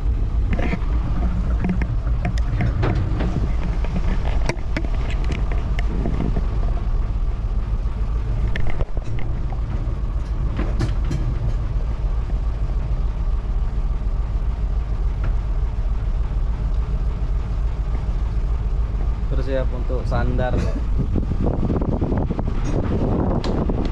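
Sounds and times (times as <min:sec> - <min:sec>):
boat engine rumbling: 0:00.0 - 0:23.9.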